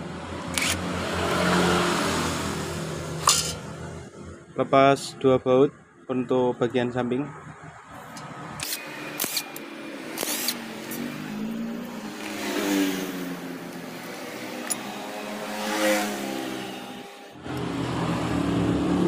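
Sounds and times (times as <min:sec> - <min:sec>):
vehicle engines revving and passing: 0:00.0 - 0:05.4, 0:06.9 - 0:19.0.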